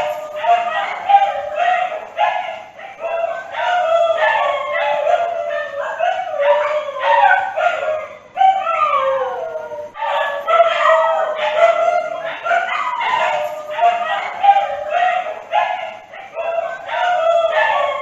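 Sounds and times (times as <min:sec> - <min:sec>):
dogs howling: 0:00.0 - 0:18.0.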